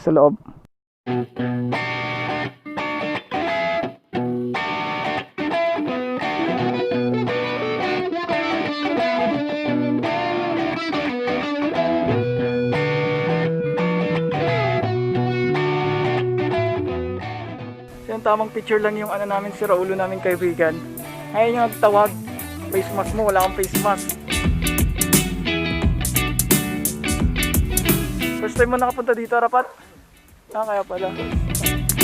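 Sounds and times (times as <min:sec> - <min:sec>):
distorted electric guitar music: 0:01.1 - 0:29.6, 0:30.3 - 0:32.0.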